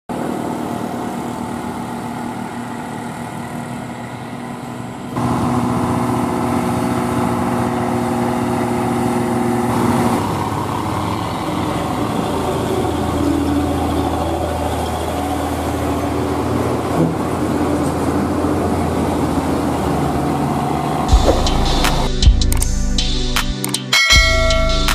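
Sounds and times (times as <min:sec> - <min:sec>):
diesel truck engines running: 0:00.1 - 0:23.0.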